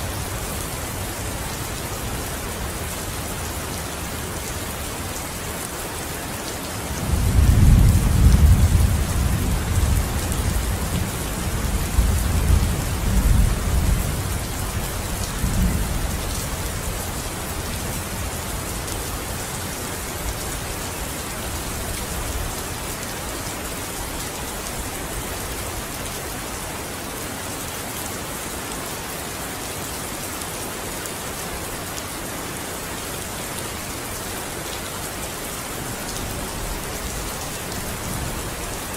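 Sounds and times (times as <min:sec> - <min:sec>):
steady rain pattering: 0:00.0 - 0:38.9.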